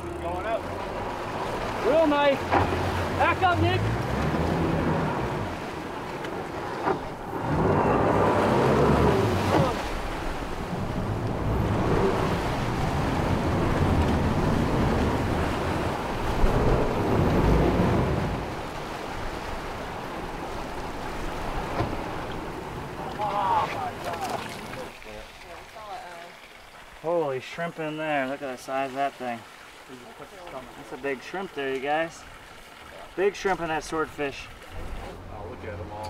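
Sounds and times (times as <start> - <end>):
outboard motors churning water: 0.0 - 36.0.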